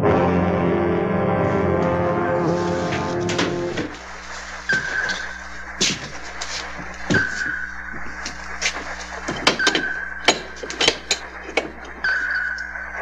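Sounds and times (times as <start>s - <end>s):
high sonar ping: 0.0s - 13.0s
low steady hum: 0.0s - 13.0s.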